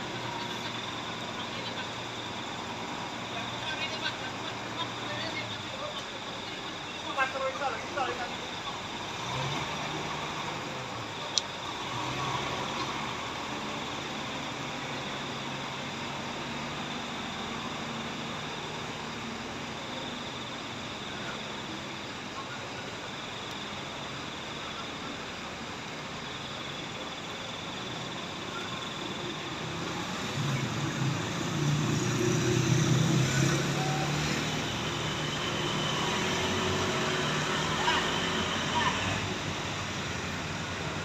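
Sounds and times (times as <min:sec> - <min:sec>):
outdoor background noise: 0:00.0 - 0:41.0
truck engine running: 0:00.0 - 0:41.0.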